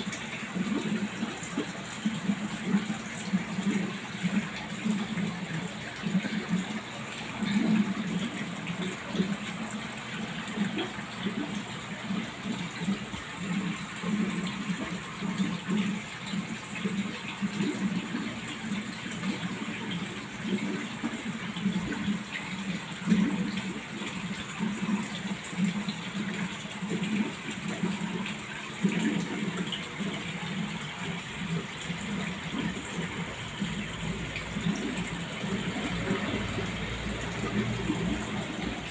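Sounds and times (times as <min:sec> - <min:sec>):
low gurgling: 0:00.0 - 0:38.9
water gushing in fish tank: 0:00.0 - 0:38.9.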